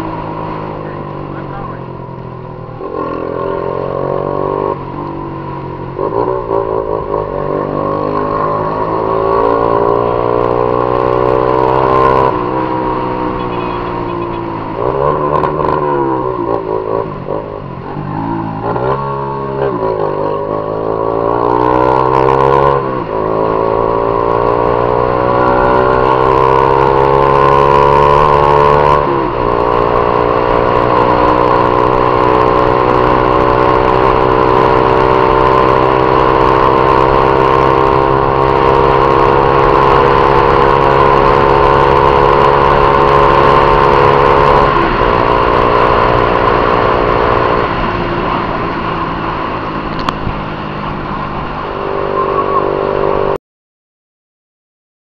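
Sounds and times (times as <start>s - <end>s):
motorcycle engine accelerating: 0.0s - 53.4s.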